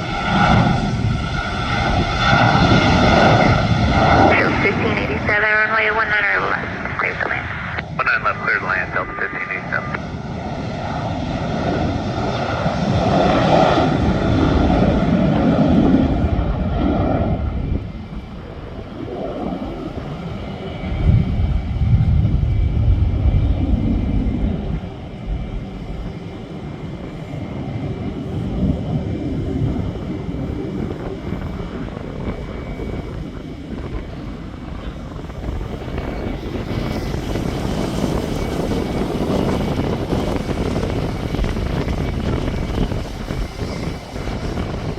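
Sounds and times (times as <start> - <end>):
jet engines roaring on takeoff: 0.0 - 44.9.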